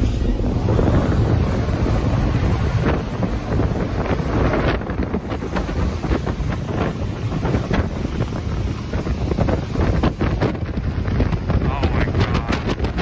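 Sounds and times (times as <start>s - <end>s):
wind gusting across microphone: 0.0s - 13.0s.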